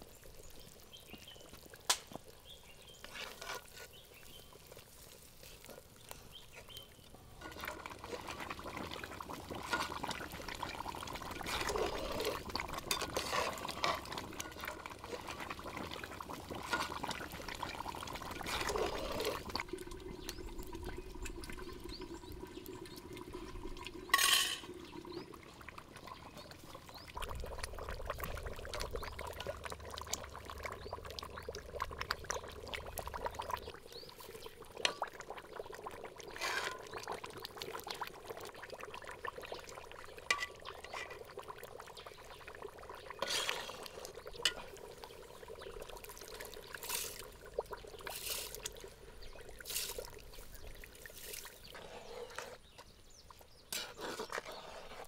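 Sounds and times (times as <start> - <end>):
water pouring and splashing: 0.0 - 52.8.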